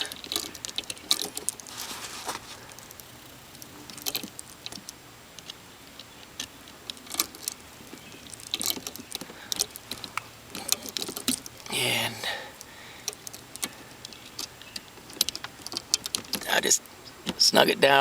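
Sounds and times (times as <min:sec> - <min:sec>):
light metallic clicks and rattles: 0:00.0 - 0:17.7.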